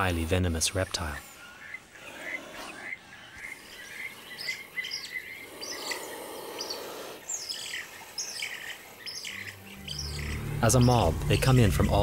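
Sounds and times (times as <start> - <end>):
mongooses chirping: 0.9 - 11.2.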